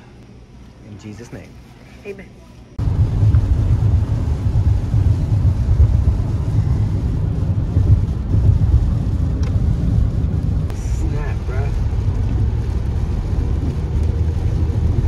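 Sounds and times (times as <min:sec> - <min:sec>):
car road and engine rumble: 0:02.7 - 0:15.0.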